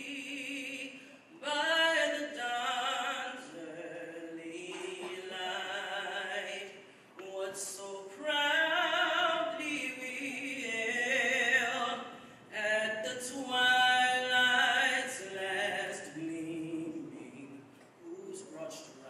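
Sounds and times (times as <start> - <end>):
man singing into microphone: 0.0 - 18.9.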